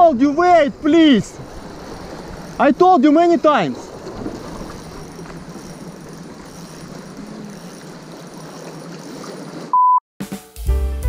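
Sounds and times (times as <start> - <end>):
outdoor background noise: 0.0 - 9.8.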